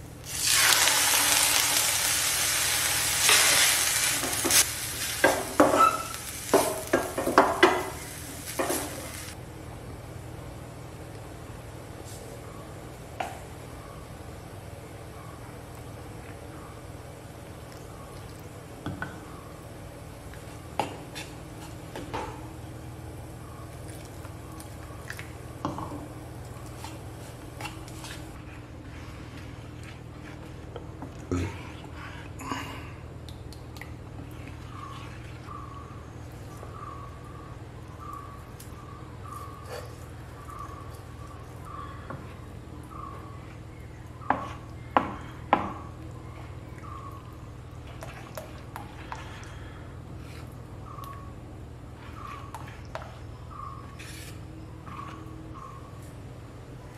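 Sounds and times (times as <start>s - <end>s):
low background hum: 0.0s - 56.9s.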